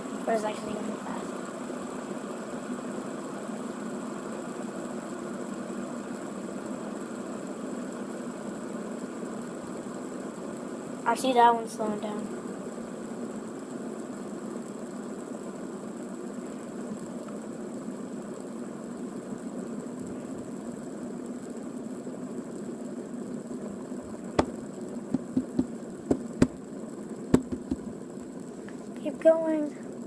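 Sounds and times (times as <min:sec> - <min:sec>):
fidget spinners whirring: 0:00.0 - 0:30.0.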